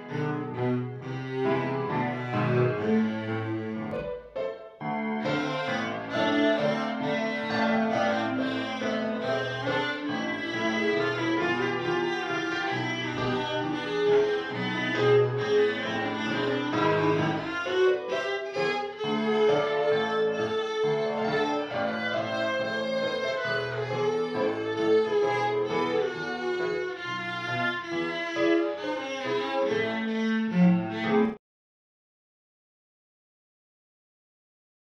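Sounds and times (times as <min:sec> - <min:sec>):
bowed strings music: 0:00.0 - 0:31.4.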